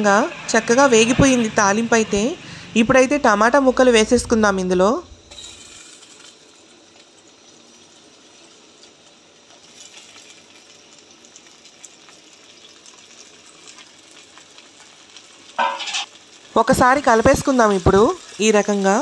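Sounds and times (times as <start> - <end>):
hot oil sizzling in a pot: 0.0 - 19.0.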